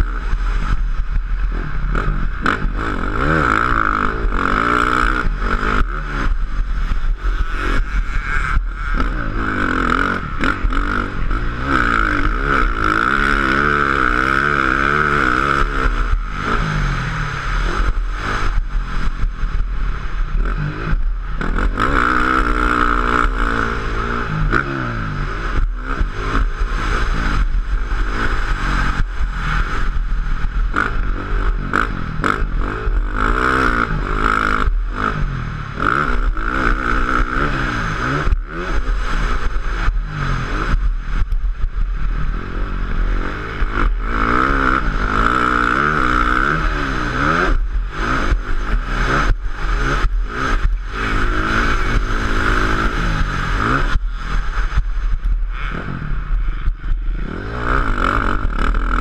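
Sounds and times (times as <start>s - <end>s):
wind rush on microphone: 0.0s - 13.9s, 14.5s - 59.0s
motocross bike engine revving: 0.0s - 59.0s.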